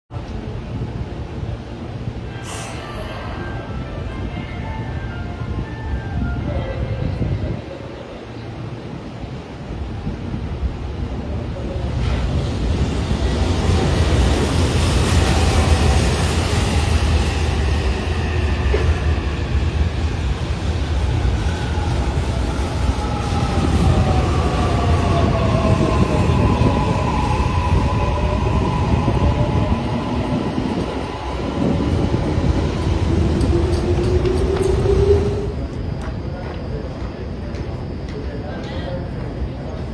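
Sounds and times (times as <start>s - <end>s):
train wheels rumbling on rails: 0.2s - 39.9s.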